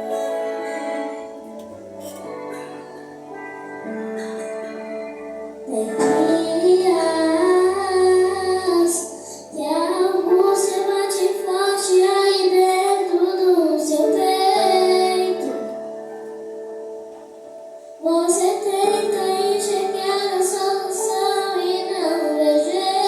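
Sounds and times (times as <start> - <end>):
person singing worship song: 0.0 - 16.6, 17.9 - 23.0
held instrumental chords: 0.0 - 23.0.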